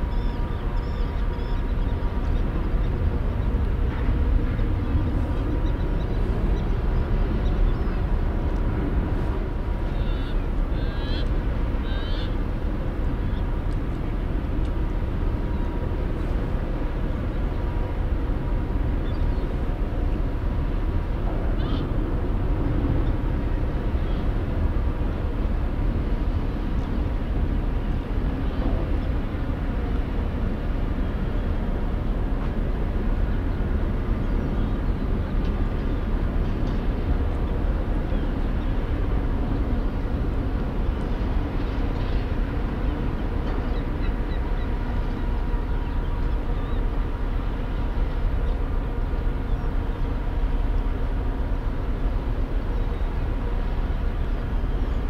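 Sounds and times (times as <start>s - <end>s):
ship engines rumbling: 0.0s - 55.0s.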